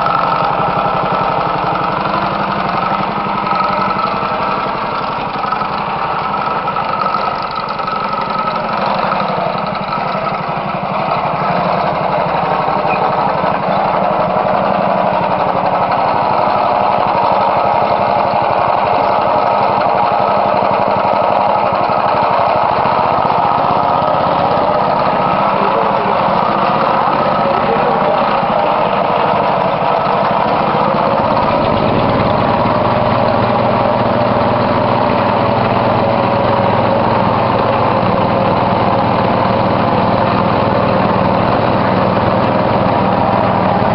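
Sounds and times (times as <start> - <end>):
small engine running: 0.0 - 43.9.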